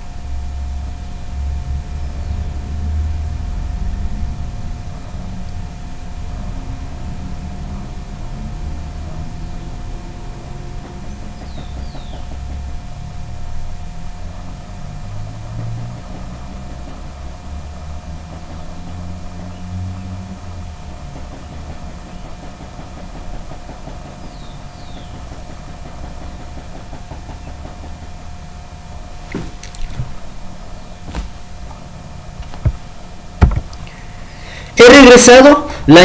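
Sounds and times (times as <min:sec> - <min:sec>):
low rumble and hum: 0:00.0 - 0:34.6
faint constant whine: 0:00.0 - 0:36.0.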